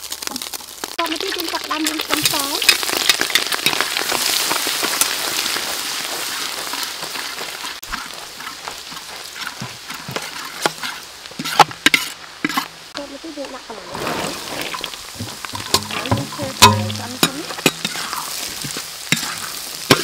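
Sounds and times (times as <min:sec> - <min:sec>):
sauce sizzling in hot oil: 0:00.0 - 0:20.0.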